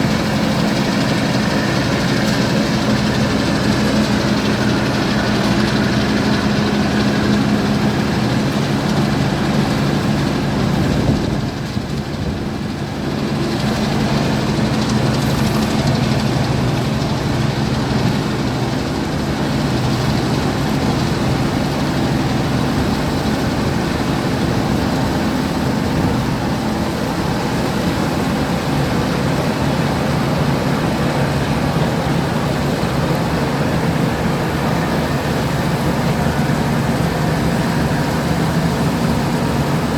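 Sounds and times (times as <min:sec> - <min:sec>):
combine harvester engine humming: 0:00.0 - 0:39.9
threshing machinery noise: 0:00.0 - 0:39.9.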